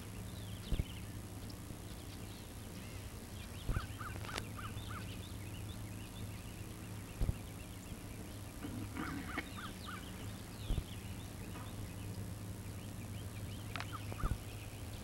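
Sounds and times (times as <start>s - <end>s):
low steady hum: 0.0s - 15.0s
wild birds calling: 0.0s - 15.0s.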